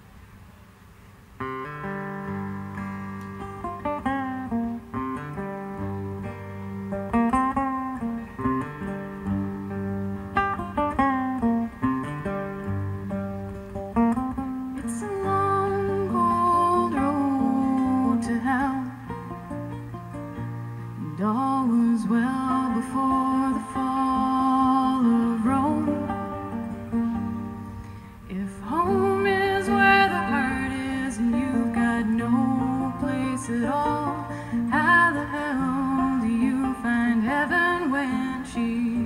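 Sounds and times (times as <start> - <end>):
strummed acoustic guitar: 1.4 - 39.0.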